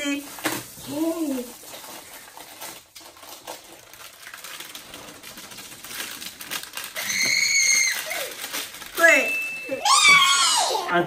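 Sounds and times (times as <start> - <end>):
plastic bag of foam beads crinkling: 0.0 - 10.4.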